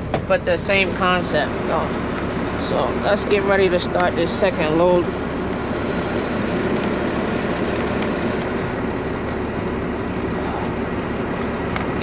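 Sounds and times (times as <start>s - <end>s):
garbage truck engine idling: 0.0s - 12.0s.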